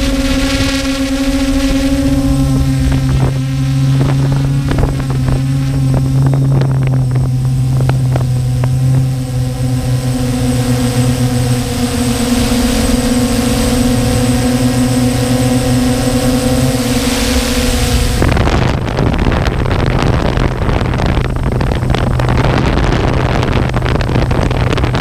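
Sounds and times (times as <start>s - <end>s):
drone propellers humming: 0.0s - 25.0s
wind on microphone: 0.0s - 25.0s.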